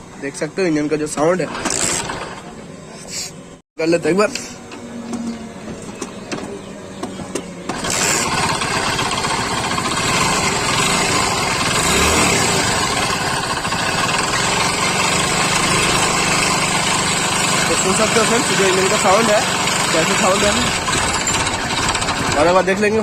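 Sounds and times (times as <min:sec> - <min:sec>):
motorcycle engine grinding roughly: 0:01.4 - 0:02.5, 0:04.9 - 0:23.0.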